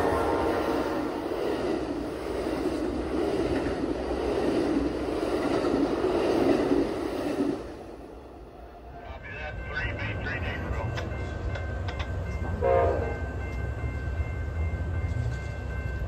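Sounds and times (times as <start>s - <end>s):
train railcars rumbling on track: 0.0s - 16.0s.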